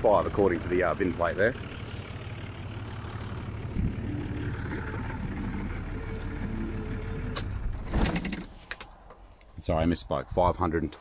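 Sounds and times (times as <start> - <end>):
engine shuddering to a stop: 0.0 - 9.0
car engine idling: 0.0 - 9.5.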